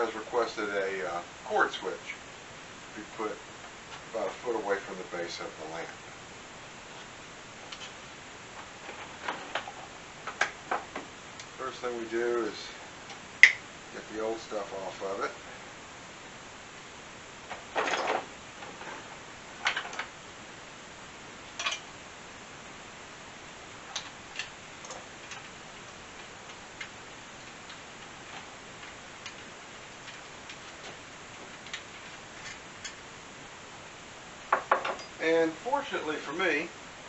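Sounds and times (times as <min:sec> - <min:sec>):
faint hiss: 0:00.0 - 0:37.0.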